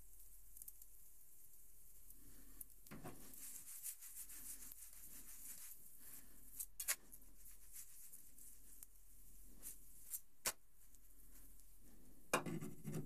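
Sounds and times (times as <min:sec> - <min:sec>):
pancake sizzling in a frying pan: 0:00.0 - 0:11.6.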